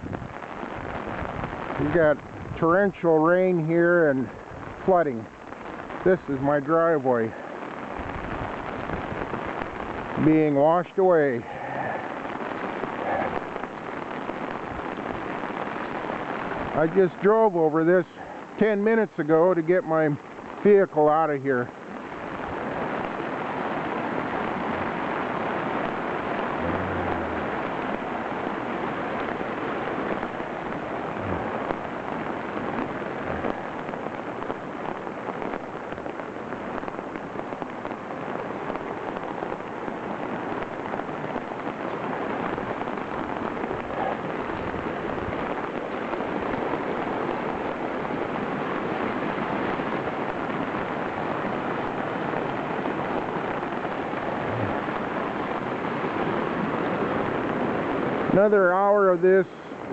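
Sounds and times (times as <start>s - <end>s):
rushing floodwater: 0.0s - 59.9s
torrential rain: 0.0s - 59.9s.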